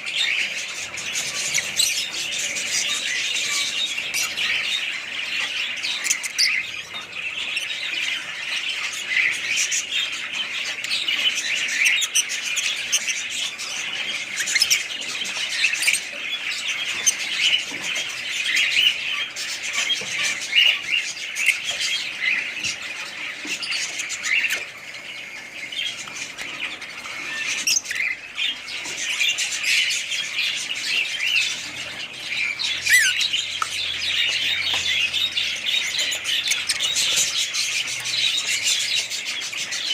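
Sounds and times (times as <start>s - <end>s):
parrots chattering and squawking: 0.0s - 39.9s.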